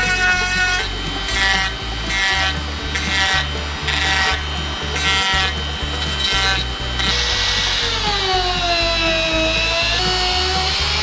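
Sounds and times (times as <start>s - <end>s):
background music with steady beat: 0.0s - 11.0s
rotary tool grinding metal: 0.0s - 11.0s.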